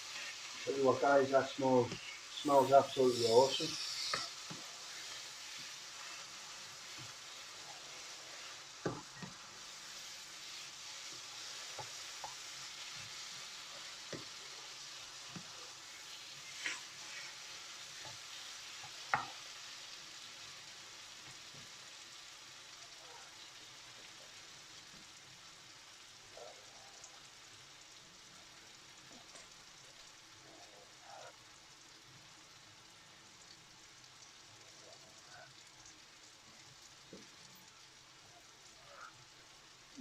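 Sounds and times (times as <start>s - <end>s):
food sizzling in pan: 0.0s - 40.0s.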